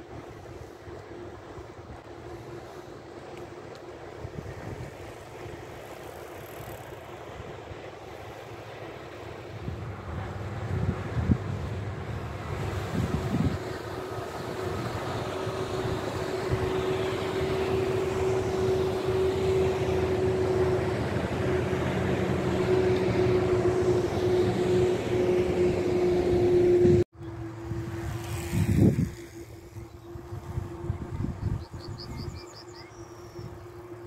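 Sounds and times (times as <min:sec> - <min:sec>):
motorboat engine humming: 0:00.0 - 0:34.0
water and wind noise: 0:00.0 - 0:34.0.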